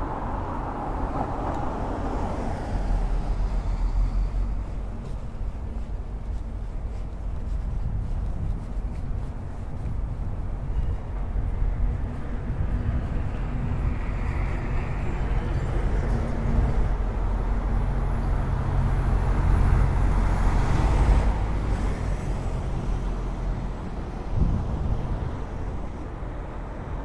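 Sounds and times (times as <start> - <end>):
road noise of passing vehicle: 0.0 - 27.0
vehicle engine humming: 0.0 - 27.0.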